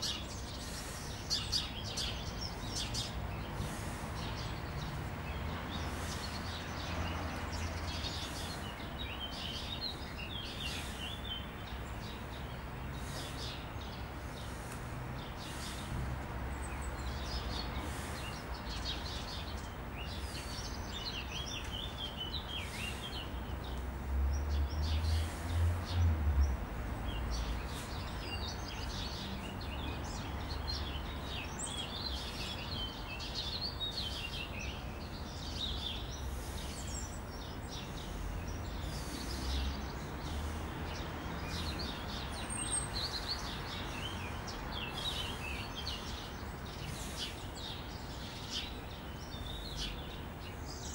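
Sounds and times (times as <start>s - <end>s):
birds chirping and singing: 0.0s - 16.0s, 16.6s - 50.9s.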